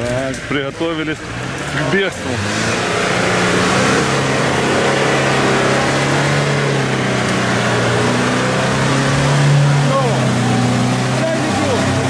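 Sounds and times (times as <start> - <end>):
buggy engine running hard: 0.0 - 12.0
mud and water splashing: 0.0 - 12.0.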